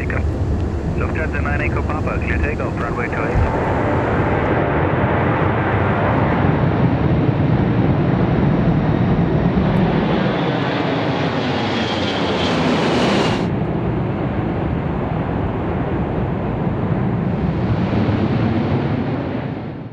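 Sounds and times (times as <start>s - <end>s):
jet engine roar: 0.0s - 19.9s.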